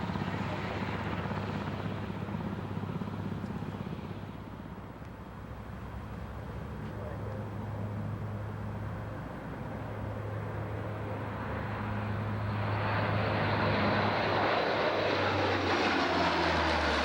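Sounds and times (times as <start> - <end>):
airplane engine: 0.0 - 17.0.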